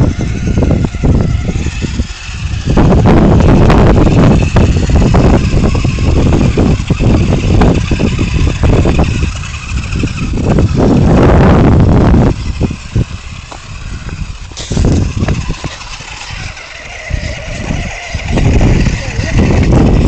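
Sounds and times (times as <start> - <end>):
rc cars whining over gravel: 0.0 - 20.0
wind noise on microphone: 0.0 - 20.0.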